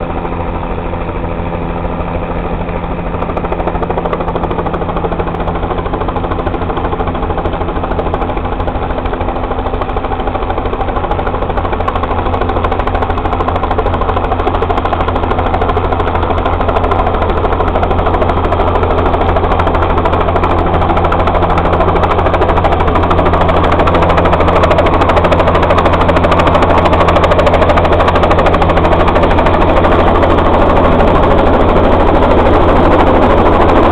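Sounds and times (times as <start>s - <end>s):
helicopter engine drone: 0.0s - 33.9s
helicopter rotor beating: 0.0s - 33.9s.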